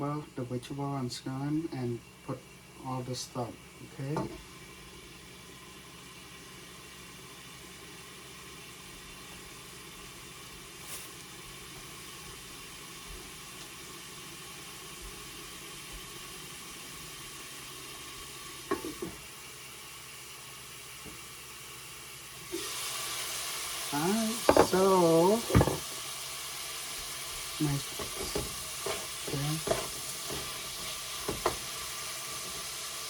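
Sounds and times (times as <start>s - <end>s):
shrimp sizzling in oil: 3.5s - 33.0s.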